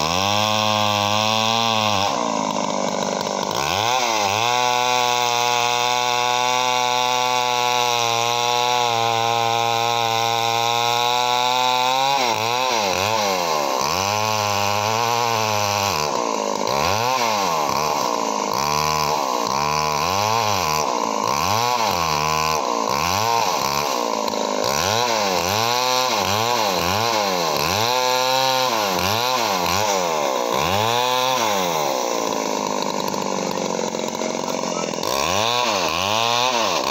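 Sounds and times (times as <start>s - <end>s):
chainsaw cutting log: 0.0s - 36.9s.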